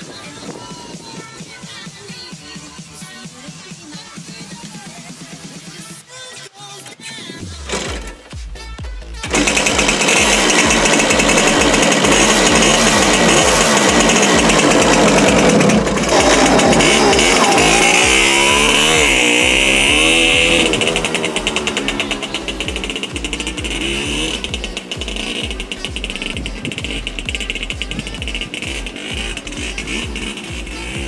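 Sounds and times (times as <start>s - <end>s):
moped engine revving: 0.0s - 6.1s, 6.8s - 31.0s.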